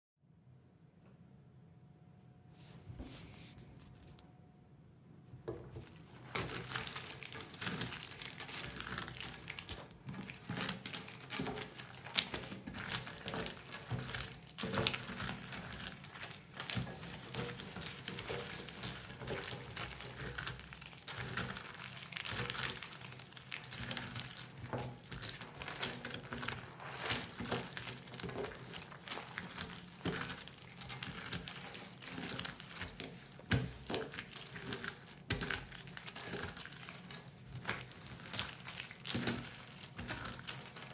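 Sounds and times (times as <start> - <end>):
jigsaw puzzle pieces crackling: 6.2 - 40.9.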